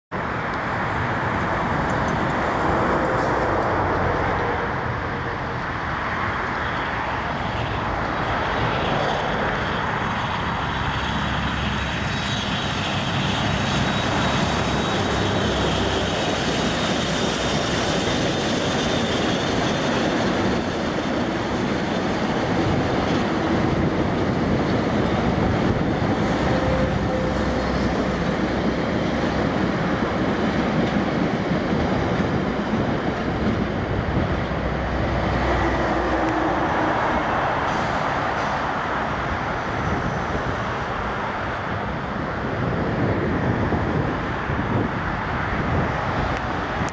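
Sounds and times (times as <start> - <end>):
road traffic: 0.1 - 46.9
steam train passing: 0.2 - 46.9.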